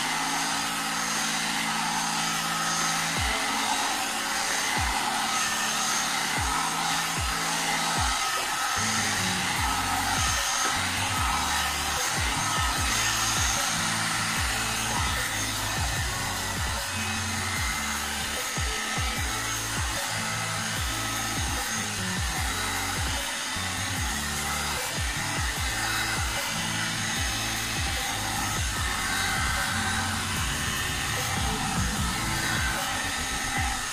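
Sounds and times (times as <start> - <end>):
background music with beat: 0.0 - 33.9
hot air brush blowing: 0.0 - 33.9.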